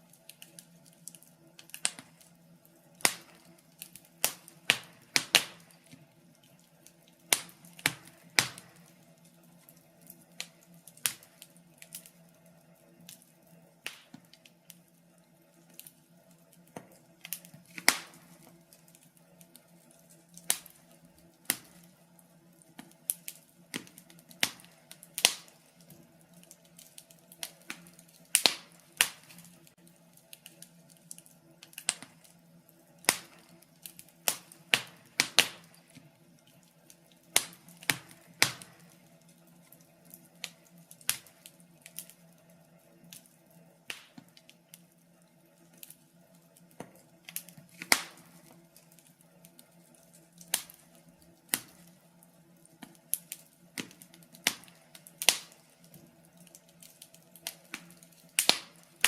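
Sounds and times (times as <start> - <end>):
logs crackling and popping: 0.0 - 59.0.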